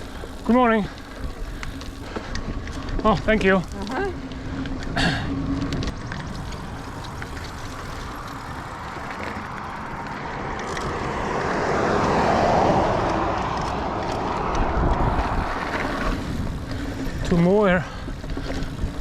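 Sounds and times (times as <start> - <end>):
drivetrain clicks and rattles: 0.0 - 11.0, 13.0 - 19.0
bike tyres on dirt: 0.0 - 19.0.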